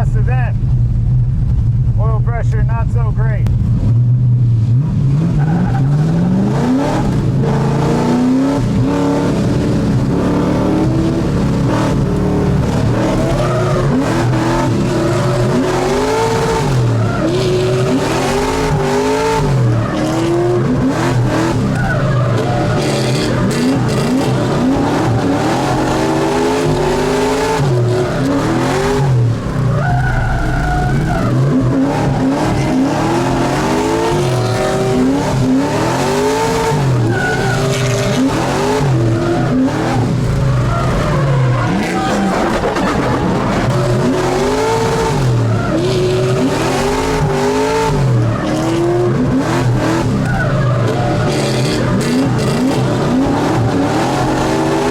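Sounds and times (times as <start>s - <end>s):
car engine revving hard: 3.8s - 54.9s
tires skidding and squealing: 5.0s - 54.9s.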